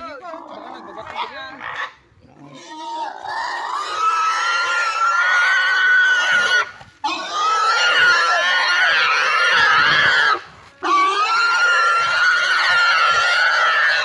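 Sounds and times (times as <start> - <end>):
pig squealing: 0.4 - 14.0.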